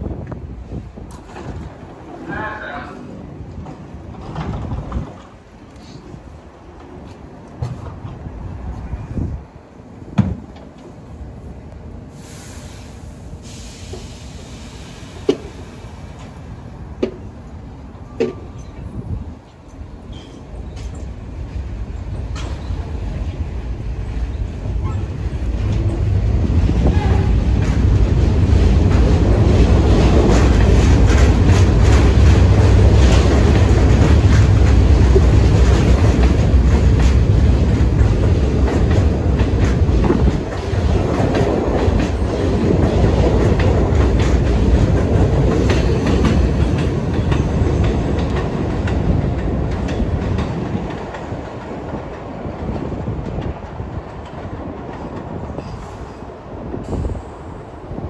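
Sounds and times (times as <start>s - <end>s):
subway train running past: 0.0s - 58.0s.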